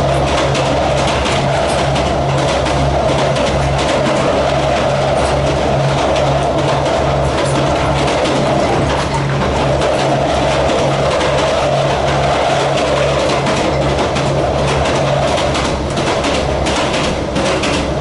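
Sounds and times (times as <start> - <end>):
pulsing engine hum: 0.0 - 18.0
track clatter: 0.0 - 18.0
wheels rumbling on rail: 0.0 - 18.0.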